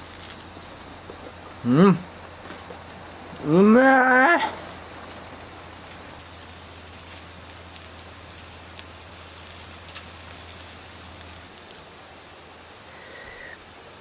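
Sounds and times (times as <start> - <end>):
sharp crackles: 0.0 - 13.7
meat sizzling on a grill: 0.0 - 13.9
high insect trill: 0.0 - 14.0.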